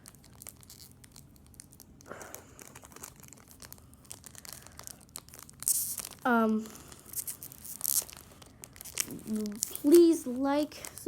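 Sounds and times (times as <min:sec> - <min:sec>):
foil pack crinkling: 0:00.0 - 0:11.0.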